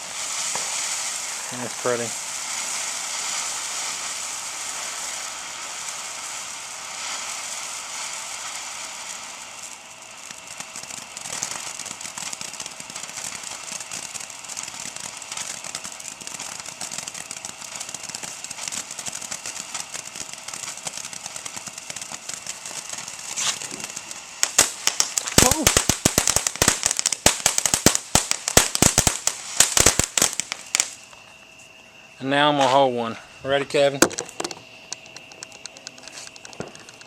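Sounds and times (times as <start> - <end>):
firework fountain hissing and crackling: 0.0 - 37.0.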